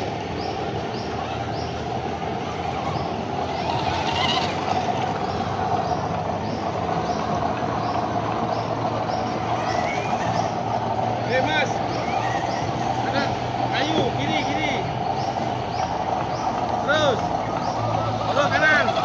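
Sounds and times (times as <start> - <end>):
toy car motor and gears whirring: 0.0 - 14.8, 15.4 - 19.0.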